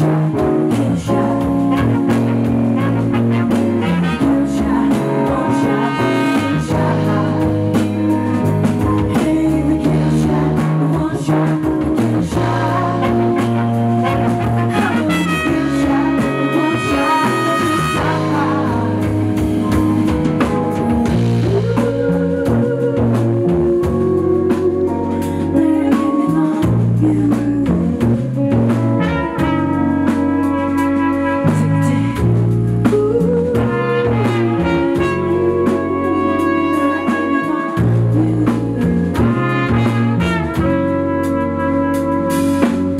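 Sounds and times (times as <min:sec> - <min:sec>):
saxophone and brass: 0:00.0 - 0:09.2, 0:10.2 - 0:26.5, 0:28.2 - 0:42.9
bass: 0:00.0 - 0:42.9
drum kit: 0:00.0 - 0:42.9.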